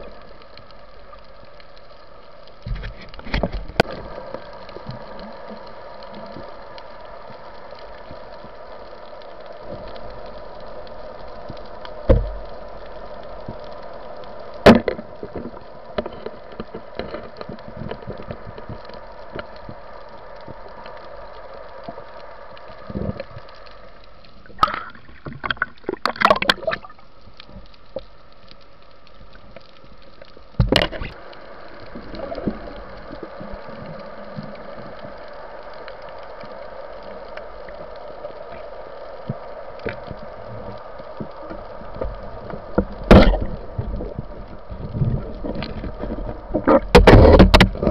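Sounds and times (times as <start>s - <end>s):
muffled underwater hiss: 0.0s - 47.9s.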